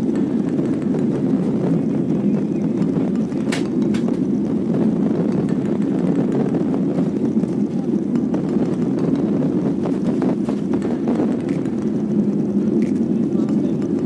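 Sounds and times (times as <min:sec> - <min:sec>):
vehicle drone: 0:00.0 - 0:14.0.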